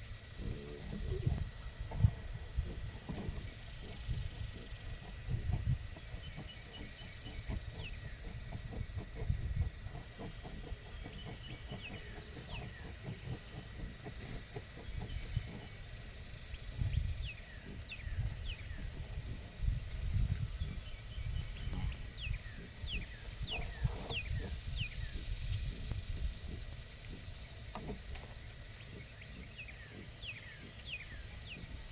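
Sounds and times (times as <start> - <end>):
birds chirping: 0.0 - 31.9
pigs grunting and snuffling: 0.3 - 31.9.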